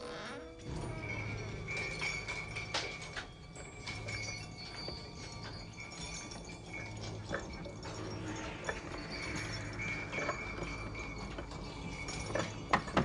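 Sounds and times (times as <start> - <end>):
metal chains clinking: 0.0 - 13.0
low steady drone: 0.6 - 13.0.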